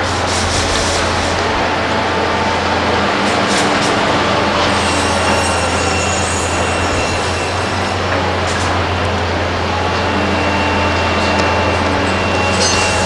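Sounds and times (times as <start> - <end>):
excavator engine drone: 0.0 - 13.0
high-pitched metallic squealing: 0.0 - 13.0.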